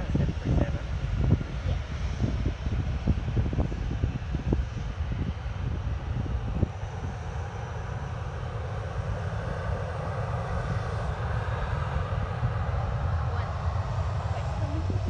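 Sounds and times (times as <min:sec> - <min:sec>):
jet engines running up: 0:00.0 - 0:15.0.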